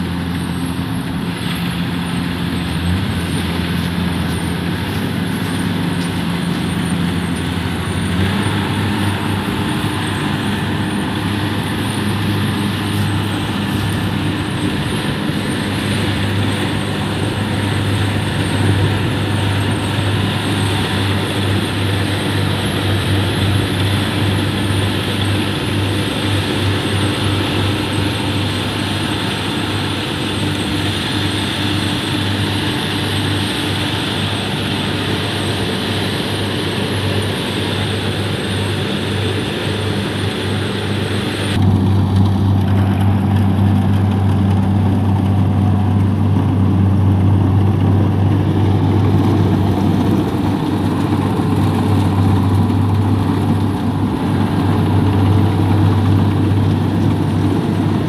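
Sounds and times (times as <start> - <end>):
combine harvester droning: 0.0 - 58.0.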